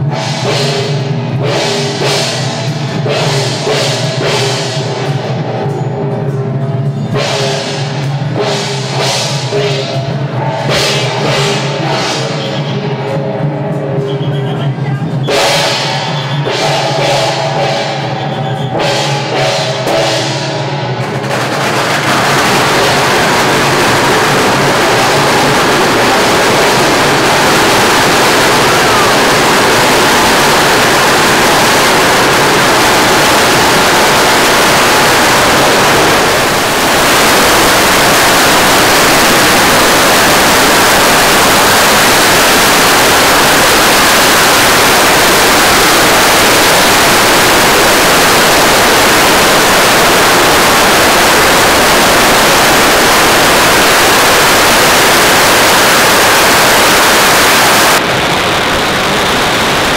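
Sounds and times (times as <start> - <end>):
firecrackers crackling: 0.0 - 59.9.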